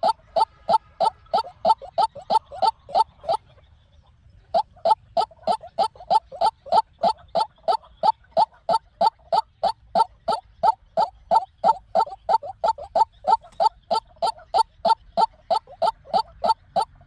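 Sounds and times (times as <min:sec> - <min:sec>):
waterhen calling: 0:00.0 - 0:03.6, 0:04.5 - 0:17.0.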